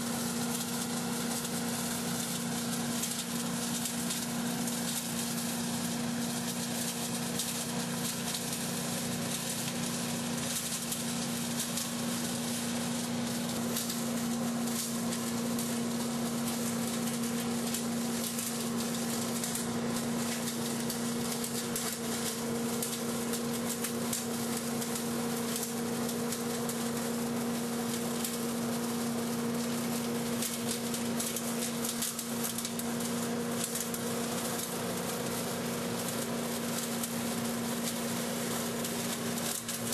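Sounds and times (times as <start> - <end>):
dry leaves being sucked up: 0.0 - 39.9
leaf vacuum engine hum: 0.0 - 39.9.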